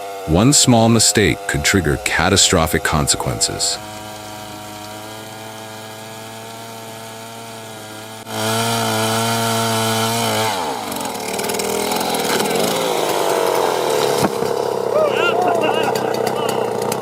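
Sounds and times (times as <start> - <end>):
rough wood cutting noise: 0.0 - 17.0
wood-cutting machine running: 0.0 - 17.0.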